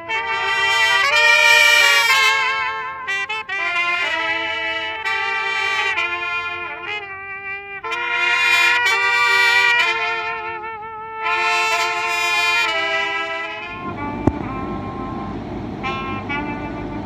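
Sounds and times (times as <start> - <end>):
trumpets playing in harmony: 0.0 - 17.0.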